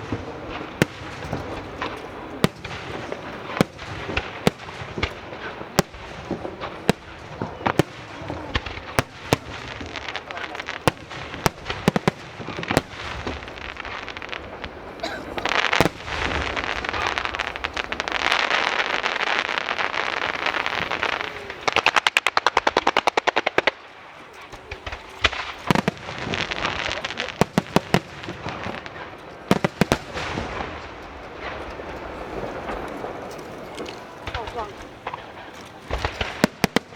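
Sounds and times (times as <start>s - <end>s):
fireworks bangs: 0.0s - 36.9s
fireworks crackling: 0.0s - 36.9s.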